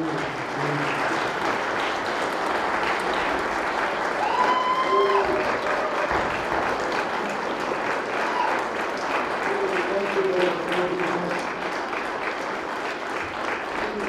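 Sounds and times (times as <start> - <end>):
group of people clapping: 0.0 - 14.0.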